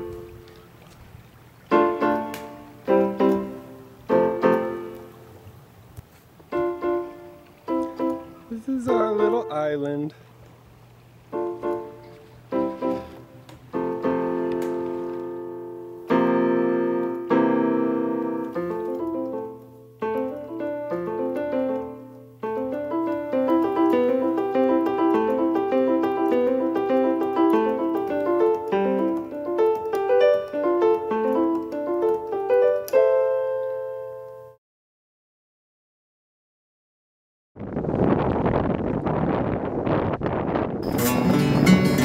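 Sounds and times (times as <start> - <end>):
piano music: 0.0 - 5.5, 6.4 - 10.2, 11.2 - 34.6, 40.8 - 42.0.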